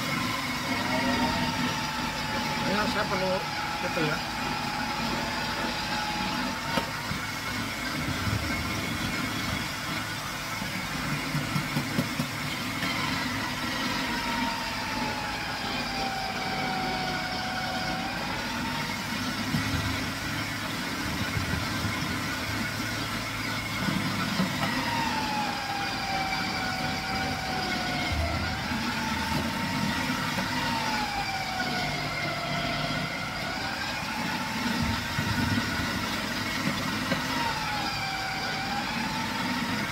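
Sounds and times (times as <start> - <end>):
food processor motor whining: 0.0 - 39.9.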